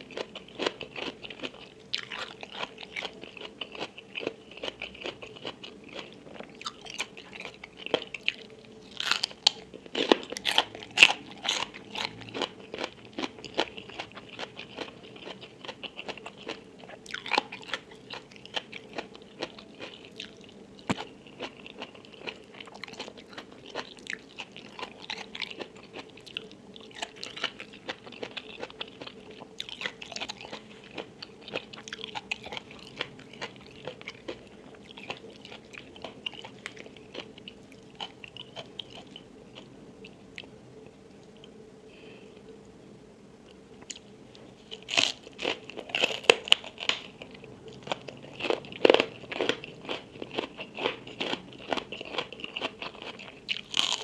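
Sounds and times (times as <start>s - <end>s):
chewing crunchy food: 0.0s - 41.6s, 43.5s - 54.0s.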